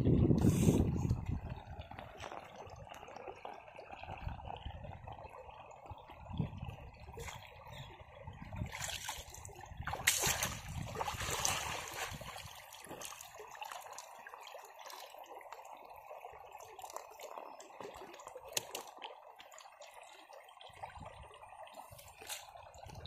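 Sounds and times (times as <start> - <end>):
water trickling: 0.0 - 23.0.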